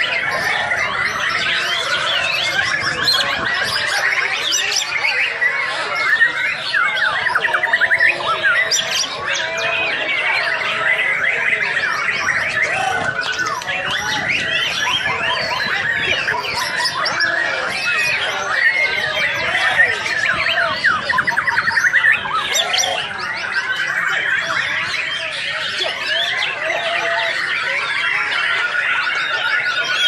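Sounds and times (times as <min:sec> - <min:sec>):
bird singing whistles and trills: 0:00.0 - 0:30.0.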